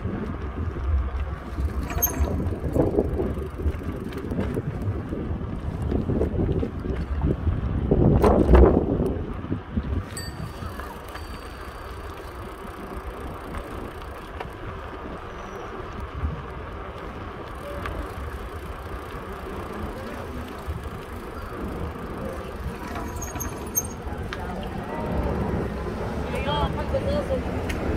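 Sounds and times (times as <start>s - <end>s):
background traffic: 0.0s - 27.9s
bicycle rolling and wind noise: 0.0s - 27.9s.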